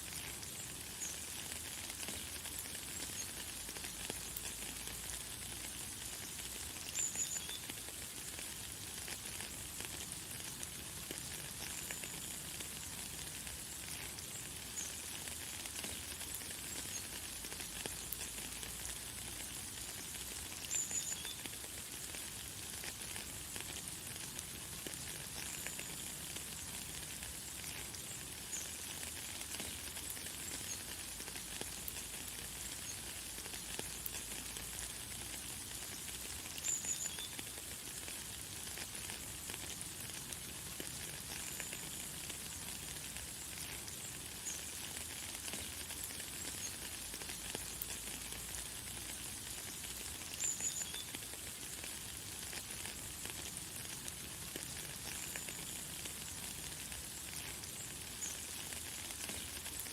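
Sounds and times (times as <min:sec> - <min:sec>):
light rain hissing: 0:00.0 - 0:59.9.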